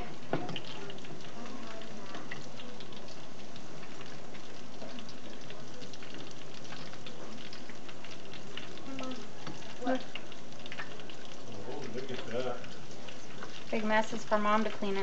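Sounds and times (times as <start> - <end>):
deep-frying sizzle and crackles: 0.0 - 15.0.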